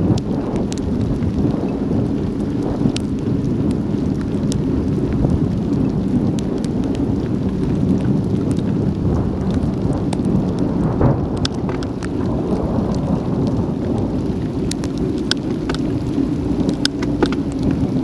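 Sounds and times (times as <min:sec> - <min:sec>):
bicycle tyres rolling through water: 0:00.0 - 0:18.0
raindrops ticking on camera housing: 0:00.0 - 0:18.0
wind rumble on microphone: 0:00.0 - 0:18.0.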